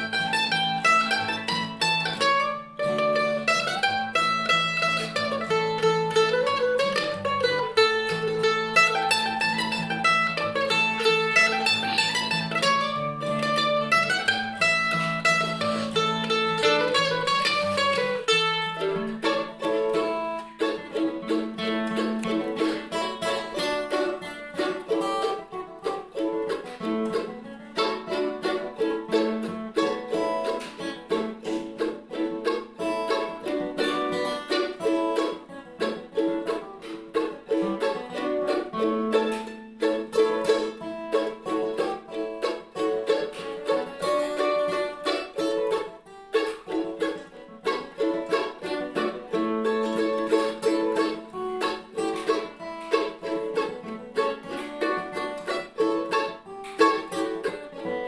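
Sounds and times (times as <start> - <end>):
acoustic guitar: 0.0 - 58.0
mandolin: 0.0 - 58.0.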